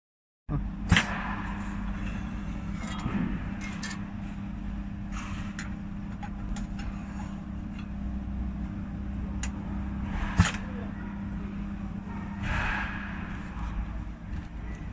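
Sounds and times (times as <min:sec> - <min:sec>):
low machine hum: 0:00.5 - 0:14.9.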